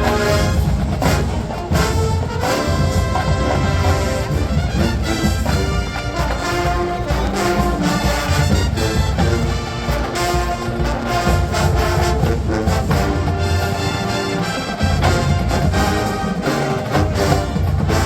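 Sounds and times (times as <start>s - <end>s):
marching band brass music: 0.0s - 18.0s
steady drum beat: 0.0s - 18.0s.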